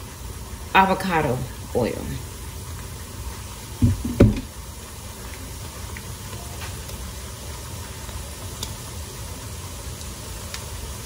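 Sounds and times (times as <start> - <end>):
oil sizzling with pops: 0.0 - 11.0.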